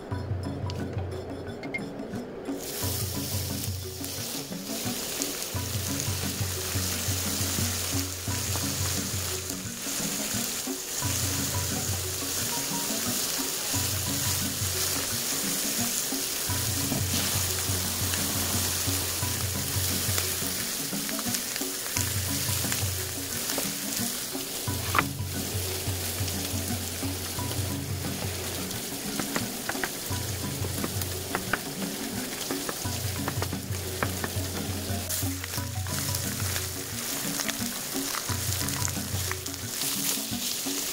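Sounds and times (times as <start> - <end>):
background music with bass line: 0.0 - 40.9
meat sizzling in a frying pan: 2.6 - 40.9.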